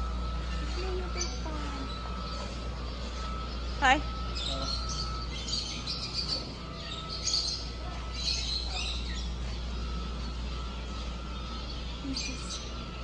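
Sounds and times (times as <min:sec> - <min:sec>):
caged birds chirping: 0:00.0 - 0:13.0
steady hum: 0:00.0 - 0:13.0.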